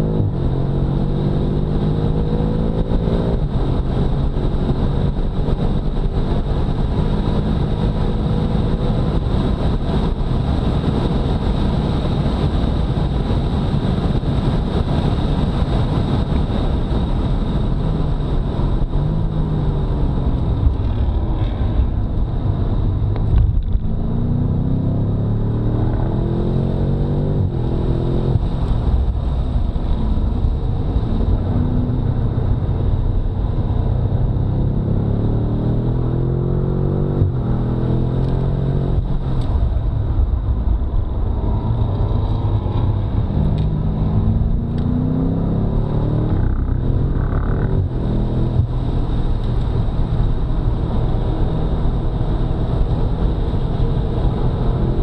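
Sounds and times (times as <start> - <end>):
car engine shifting gears: 0.0 - 55.0.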